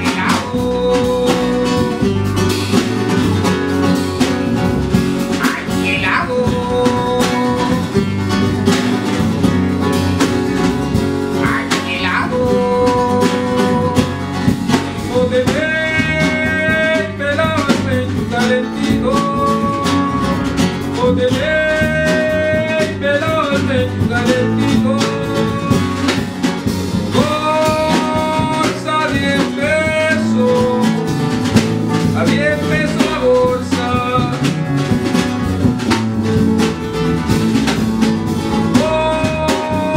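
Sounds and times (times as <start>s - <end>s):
guitars playing: 0.0s - 39.9s.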